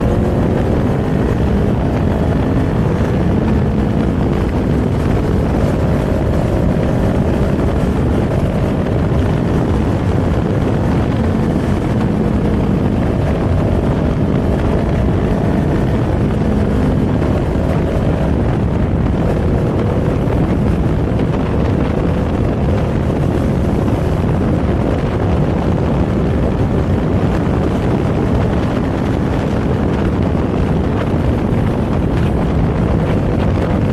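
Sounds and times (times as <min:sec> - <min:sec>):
motorcycle engine running: 0:00.0 - 0:33.9
wind noise on microphone: 0:00.0 - 0:33.9.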